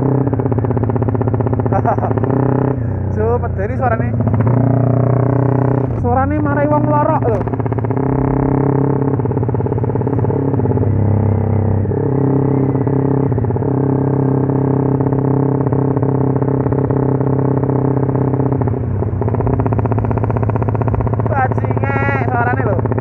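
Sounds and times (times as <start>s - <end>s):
motorcycle engine chopping beat: 0.0s - 11.4s, 12.0s - 23.0s.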